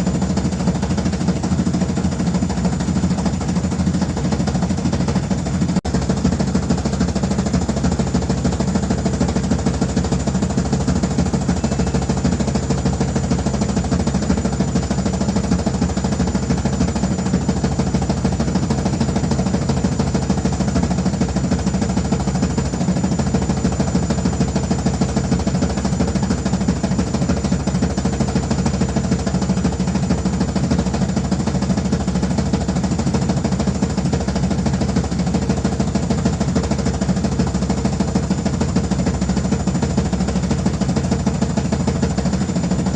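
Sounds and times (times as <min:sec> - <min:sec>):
fast rattling vibration: 0:00.0 - 0:42.9
washing machine running: 0:00.0 - 0:42.9.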